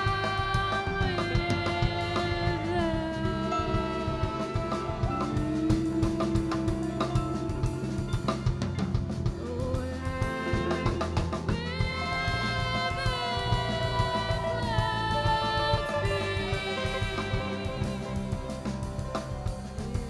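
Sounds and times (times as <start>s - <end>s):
drum kit snare and rimshots: 0.0s - 20.0s
live jazz band playing: 0.0s - 20.0s.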